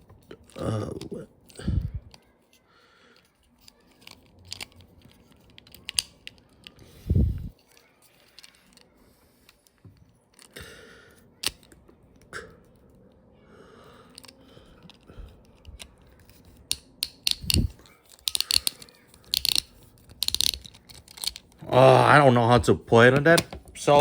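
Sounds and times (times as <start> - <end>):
plastic parts clicking and rattling: 0.0 - 10.6, 11.4 - 12.3, 14.1 - 22.1, 23.1 - 24.0.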